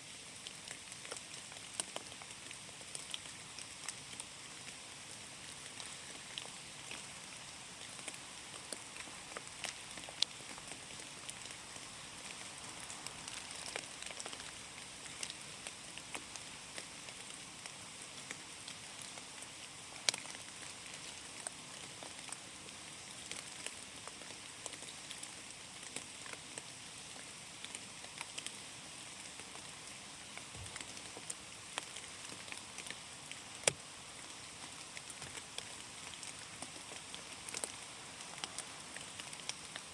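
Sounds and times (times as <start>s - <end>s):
rain pattering in a forest: 0.0s - 39.9s.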